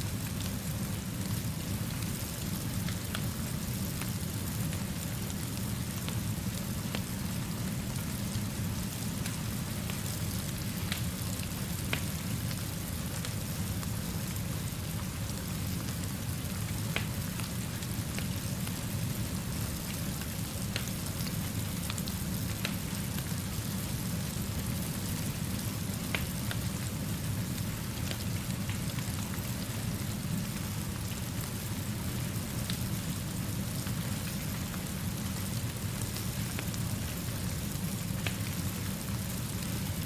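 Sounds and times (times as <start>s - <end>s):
steady rainfall: 0.0s - 40.0s.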